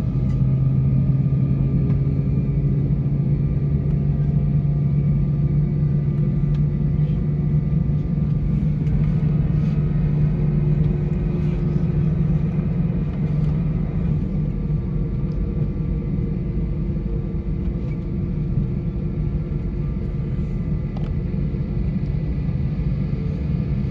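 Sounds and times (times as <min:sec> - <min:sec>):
airliner cabin engine drone: 0:00.0 - 0:23.9.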